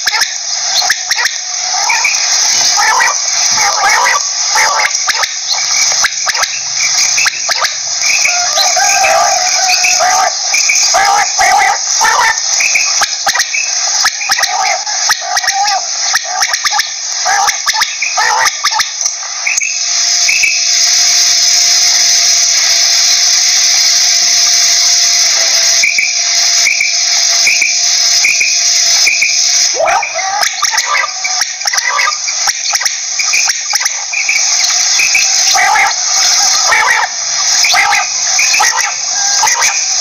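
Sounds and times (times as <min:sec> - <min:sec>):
quail chirping: 0:00.0 - 0:19.7, 0:25.8 - 0:39.8
high hiss: 0:00.0 - 0:40.0.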